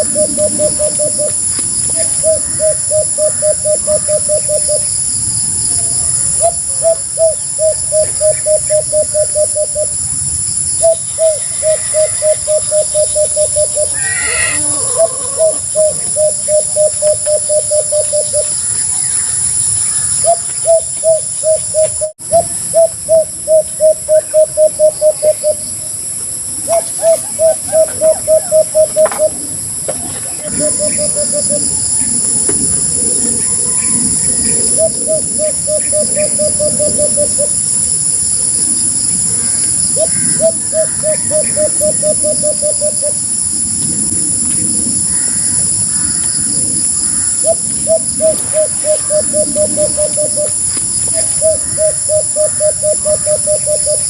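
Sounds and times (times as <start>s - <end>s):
dove cooing: 0.0s - 5.0s, 5.6s - 10.1s, 10.8s - 54.0s.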